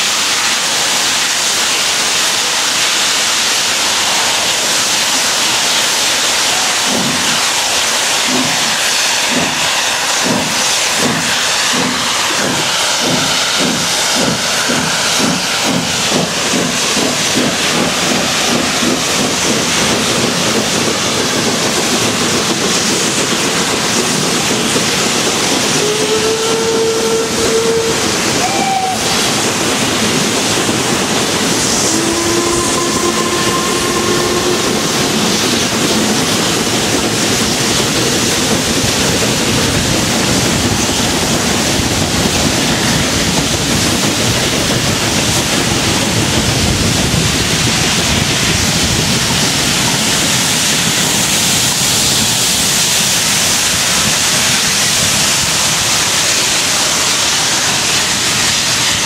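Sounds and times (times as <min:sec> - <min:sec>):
steam locomotive exhaust thrash: 0:00.0 - 0:59.0
train coaches running noise: 0:00.0 - 0:59.0.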